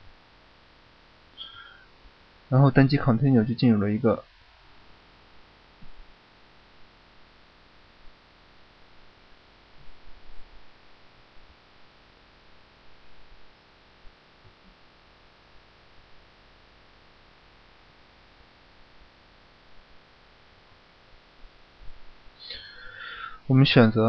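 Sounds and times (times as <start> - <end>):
low hum: 0.0 - 24.0
microphone hiss: 0.0 - 24.0.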